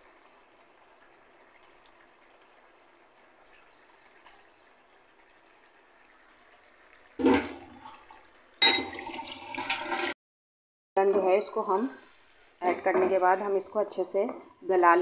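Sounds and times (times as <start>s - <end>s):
faint simmer: 0.0s - 9.6s, 11.0s - 15.0s.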